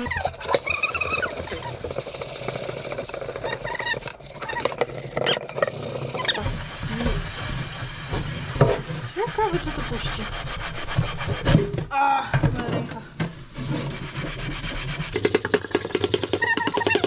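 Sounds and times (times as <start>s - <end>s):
sponge squeaks: 0.0s - 11.4s, 13.6s - 17.0s
sponge scrubbing pan: 0.0s - 11.6s, 13.6s - 17.0s.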